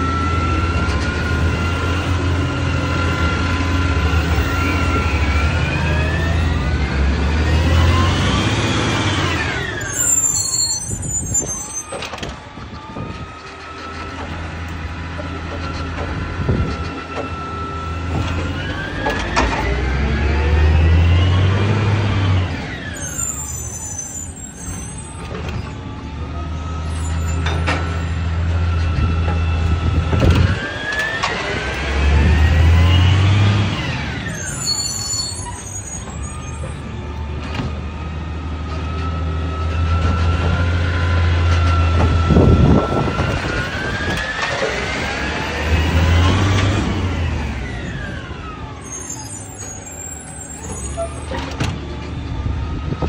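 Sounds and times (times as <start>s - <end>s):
truck engine revving: 0.0s - 11.6s, 12.3s - 53.0s
hydraulic whine: 0.0s - 53.0s.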